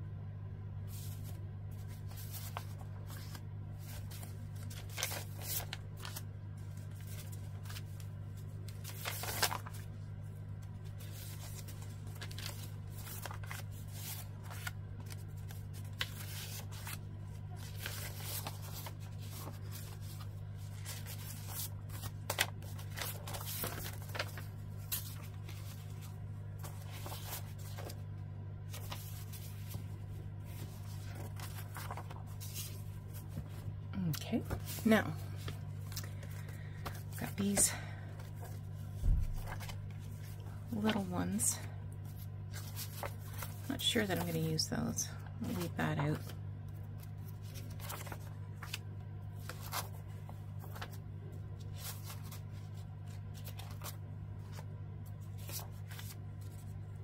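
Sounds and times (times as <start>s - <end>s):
steady low hum: 0.0s - 57.0s
paper rustling and slapping: 0.9s - 28.1s, 28.7s - 41.4s, 42.0s - 44.6s, 45.4s - 57.0s.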